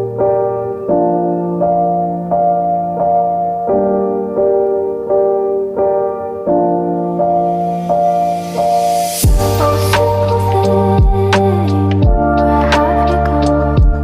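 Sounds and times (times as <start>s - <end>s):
piano playing sustained chords: 0.0s - 14.0s.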